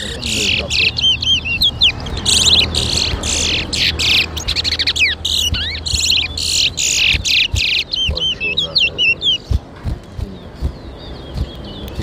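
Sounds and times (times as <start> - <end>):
finches singing trilled song: 0.0 - 12.0.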